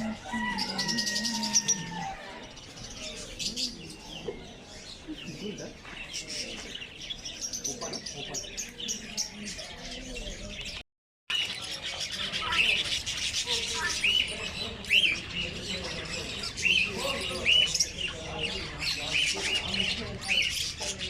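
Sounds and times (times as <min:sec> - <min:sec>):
birds chirping in chorus: 0:00.0 - 0:21.0.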